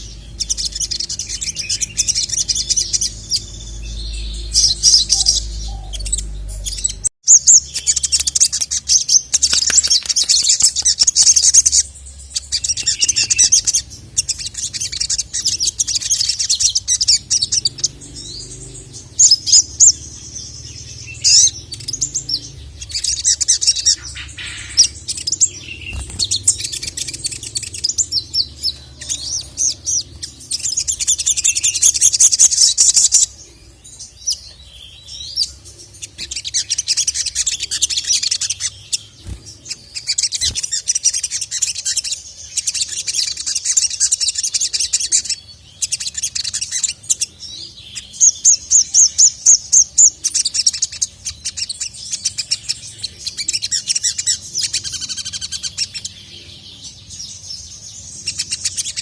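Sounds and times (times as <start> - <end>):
bird chattering trills: 0.0 - 59.0
faint low hum: 0.0 - 59.0.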